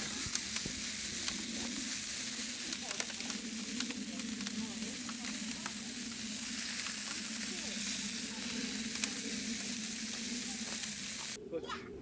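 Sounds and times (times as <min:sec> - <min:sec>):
food sizzling in a hot pan: 0:00.0 - 0:11.4.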